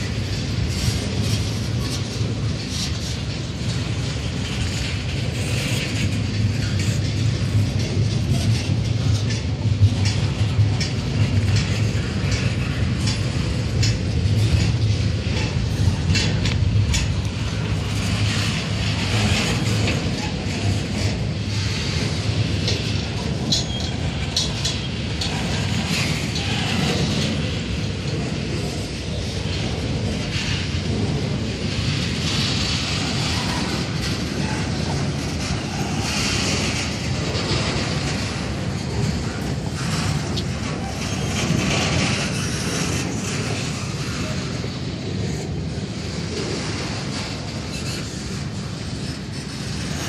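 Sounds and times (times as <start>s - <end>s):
train rumbling past: 0.0s - 50.0s.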